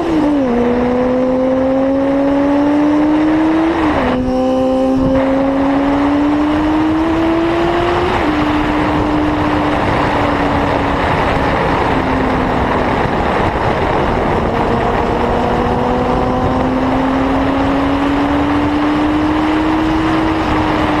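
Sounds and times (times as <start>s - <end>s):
motorcycle engine accelerating: 0.0s - 21.0s
wind noise: 0.0s - 21.0s.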